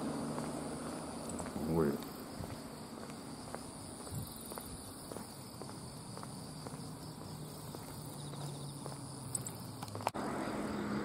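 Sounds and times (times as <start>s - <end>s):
faint footsteps: 0.0s - 10.2s
insects trilling: 0.0s - 11.0s.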